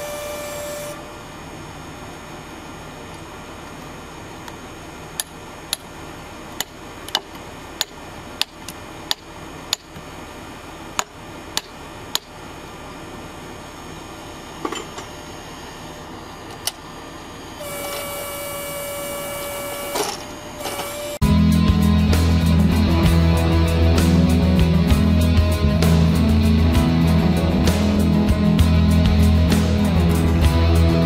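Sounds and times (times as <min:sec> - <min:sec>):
steady mechanical whine: 0:00.0 - 0:31.0.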